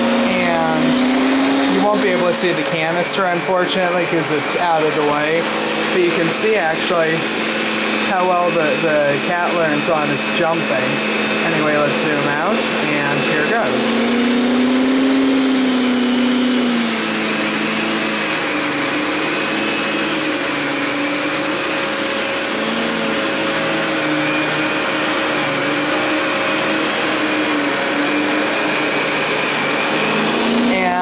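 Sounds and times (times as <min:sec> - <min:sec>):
vacuum cleaner motor whine: 0:00.0 - 0:31.0.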